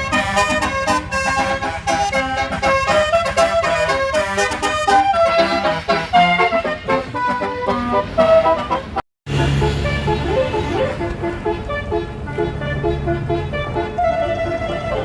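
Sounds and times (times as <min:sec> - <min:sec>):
musical air horn playing a tune: 0:00.0 - 0:15.0.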